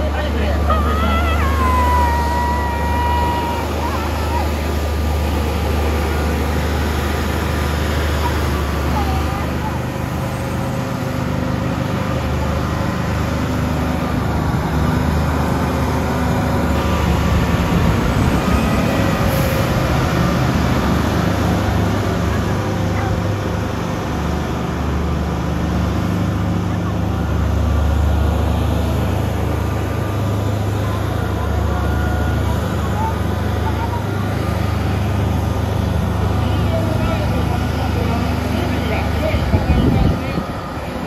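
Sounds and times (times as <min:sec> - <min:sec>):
diesel truck engine running: 0:00.0 - 0:41.0
tyres rushing on wet road: 0:00.0 - 0:41.0.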